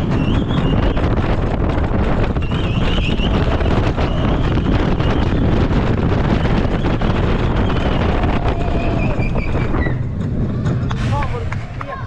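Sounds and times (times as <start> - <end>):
roller coaster train rumble: 0.0 - 12.0
wind rushing over microphone: 0.0 - 12.0.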